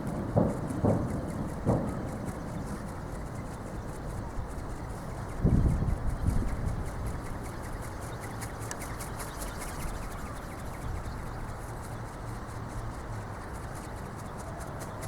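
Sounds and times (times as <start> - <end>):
plastic wings flapping crackle: 0.0 - 15.0
wind rumbling on microphone: 0.0 - 15.0.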